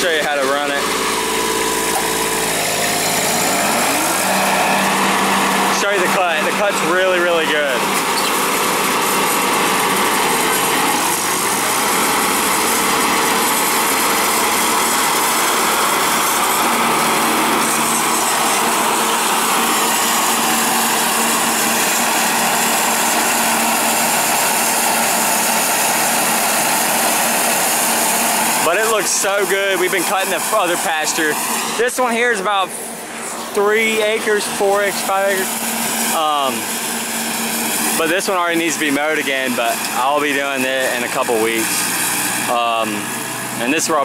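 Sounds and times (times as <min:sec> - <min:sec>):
mower blades cutting grass: 0:00.0 - 0:44.0
tractor diesel engine running: 0:00.0 - 0:44.0.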